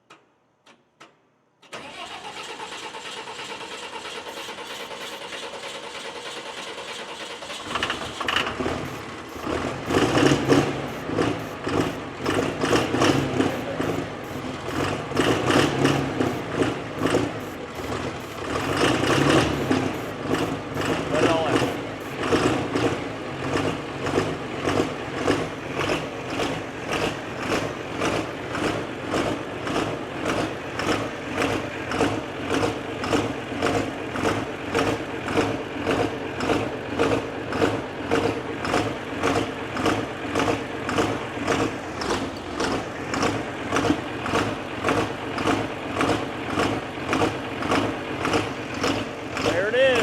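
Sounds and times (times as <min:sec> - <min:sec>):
diesel engine running unevenly: 0:02.6 - 0:50.0.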